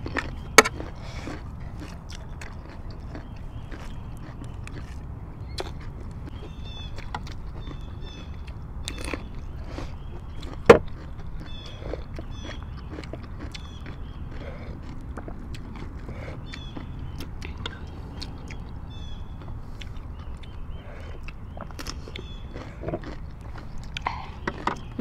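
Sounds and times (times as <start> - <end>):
chewing: 0.0 - 25.0.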